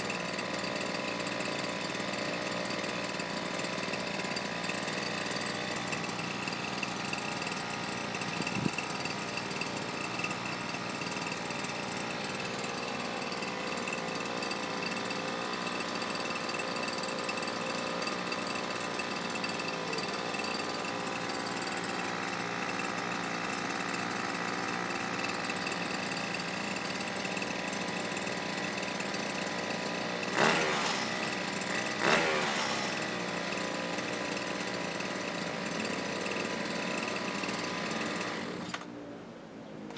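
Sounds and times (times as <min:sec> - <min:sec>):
brush cutter engine running: 0:00.0 - 0:39.0.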